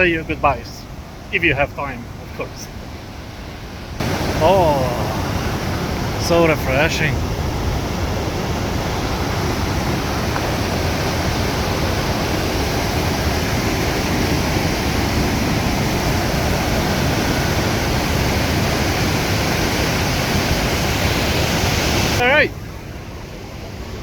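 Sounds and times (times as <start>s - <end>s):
rushing water roaring: 0.0s - 24.0s.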